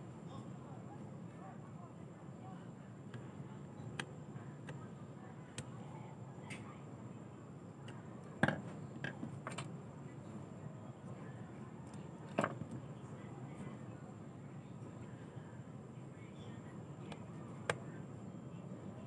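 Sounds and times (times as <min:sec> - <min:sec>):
faint background hum: 0:00.0 - 0:19.0.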